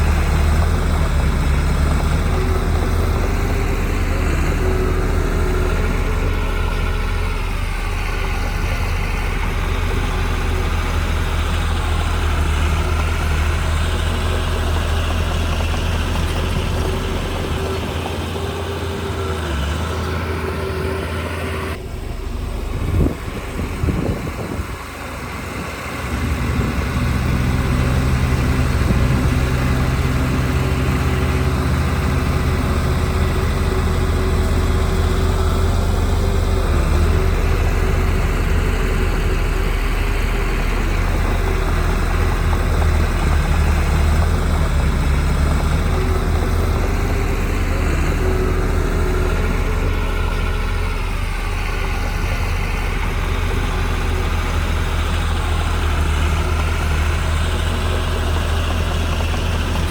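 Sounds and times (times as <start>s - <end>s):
heavy diesel machinery engine: 0.0s - 59.9s.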